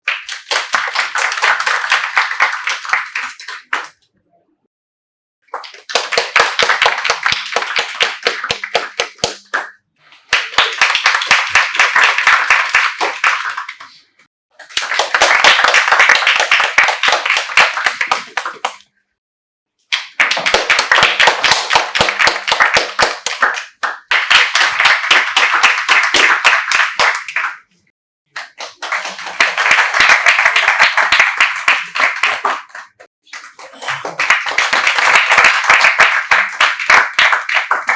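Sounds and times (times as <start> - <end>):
small group hand clapping: 0.0 - 4.1, 5.5 - 18.9, 19.9 - 37.9.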